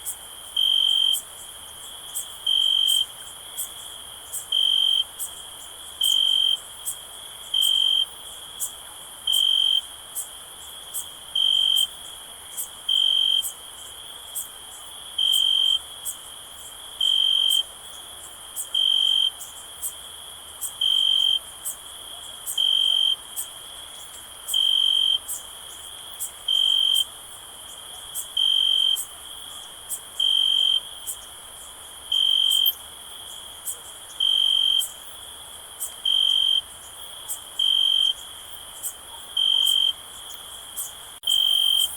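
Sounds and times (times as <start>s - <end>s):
crickets trilling: 0.0s - 41.9s
loud cricket chirp: 0.0s - 41.9s.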